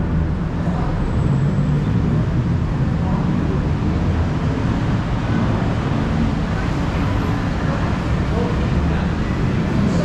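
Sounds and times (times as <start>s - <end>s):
city road traffic rumble: 0.0s - 10.0s.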